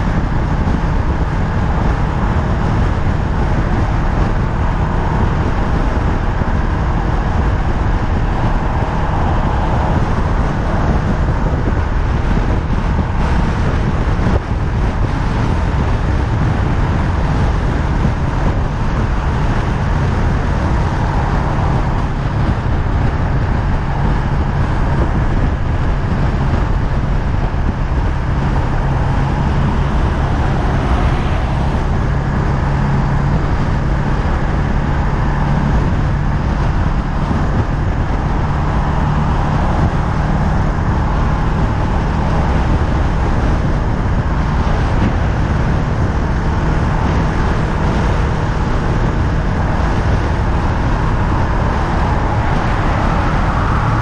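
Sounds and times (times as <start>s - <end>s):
motorcycle engine hum: 0.0s - 54.0s
wind and road noise: 0.0s - 54.0s.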